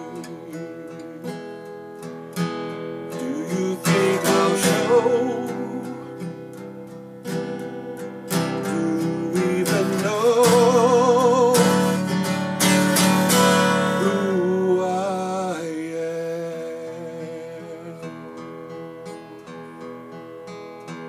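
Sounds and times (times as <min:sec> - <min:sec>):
acoustic guitar strummed blues: 0:00.0 - 0:21.0.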